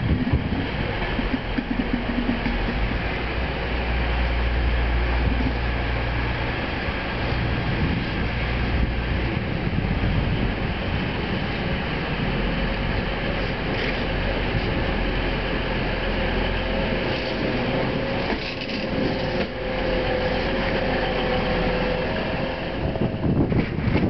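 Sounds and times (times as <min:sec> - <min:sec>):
diesel engine hum: 0:00.0 - 0:24.0
train wheel and rail noise: 0:00.0 - 0:24.0.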